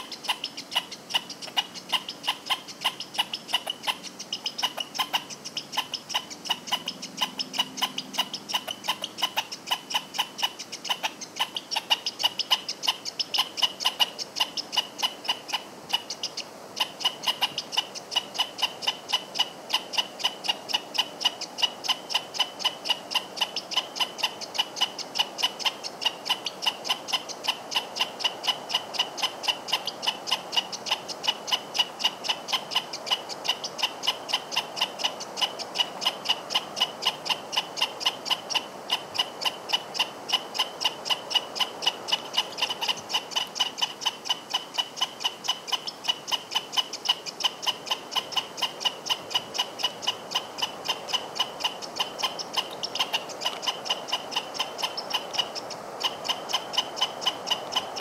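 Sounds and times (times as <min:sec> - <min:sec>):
squirrel barking: 0:00.0 - 0:58.0.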